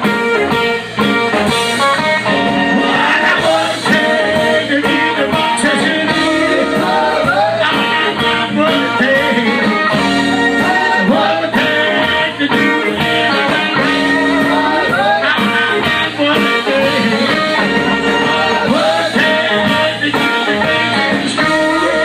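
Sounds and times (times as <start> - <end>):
electric guitar with bent notes: 0.0 - 22.0
steady drum beat: 0.0 - 22.0.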